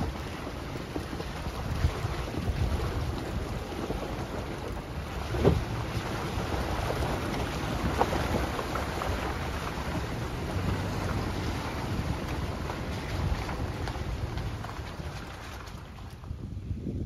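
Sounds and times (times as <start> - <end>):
vehicle bumps: 0.0 - 16.4
vehicle on gravel road rumbling: 0.0 - 17.0
wind buffeting microphone: 0.0 - 17.0.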